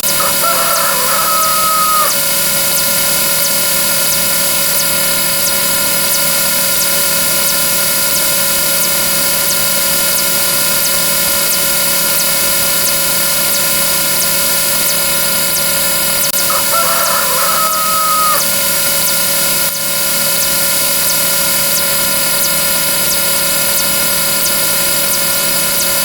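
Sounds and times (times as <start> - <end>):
faint regular ticks: 0.0 - 26.0.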